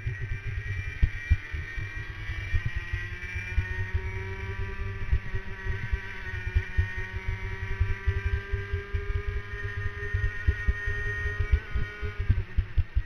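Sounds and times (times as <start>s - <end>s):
kart engine racing: 0.0s - 13.0s.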